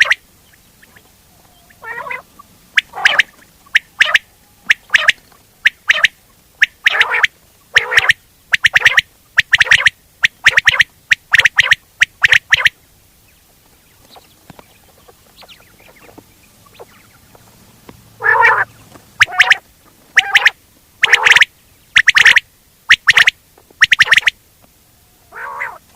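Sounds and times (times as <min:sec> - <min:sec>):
quail calling: 0:00.0 - 0:12.8, 0:14.0 - 0:17.6, 0:18.2 - 0:25.9.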